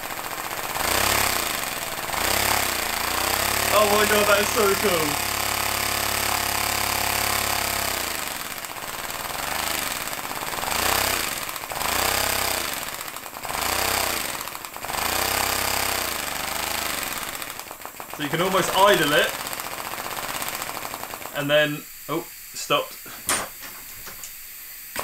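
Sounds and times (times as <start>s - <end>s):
compressed air engine running: 0.0s - 25.0s.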